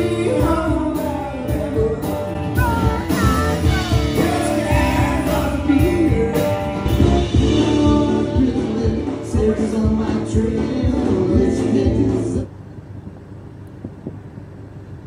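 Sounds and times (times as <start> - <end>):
acoustic and electric guitars: 0.0 - 12.5
bass guitar: 0.0 - 12.5
man singing: 0.0 - 12.5
steady drum beat: 0.0 - 12.5.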